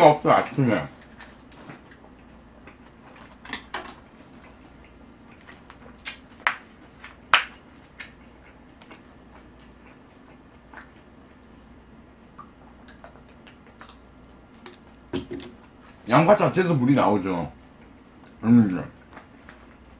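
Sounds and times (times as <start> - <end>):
chewing and lip smacks: 0.9 - 16.0, 17.6 - 19.9.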